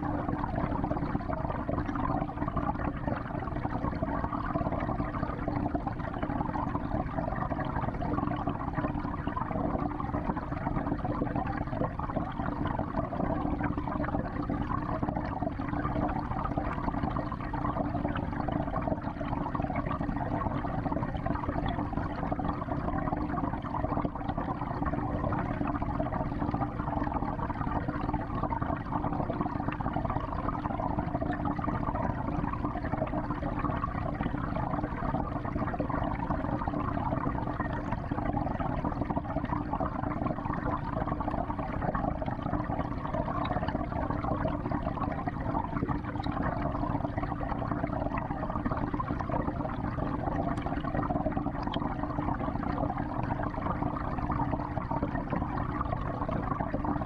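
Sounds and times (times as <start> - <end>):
aquarium water gurgling: 0.0 - 57.0.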